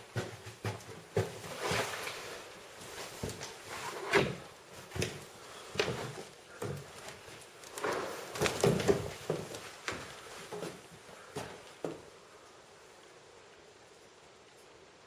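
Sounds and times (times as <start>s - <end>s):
footsteps in a building: 0.0s - 12.2s.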